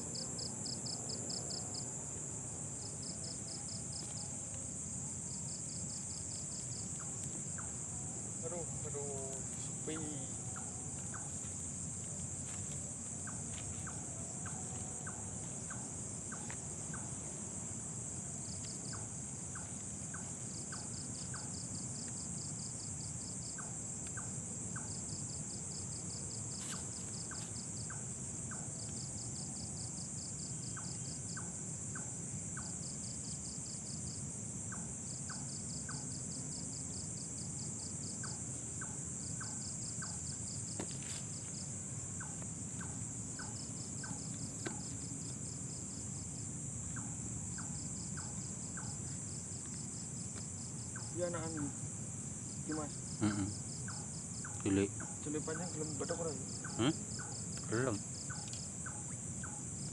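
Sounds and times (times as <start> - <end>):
crickets chirping: 0.0 - 59.9
insect pulsing trill: 0.0 - 59.9.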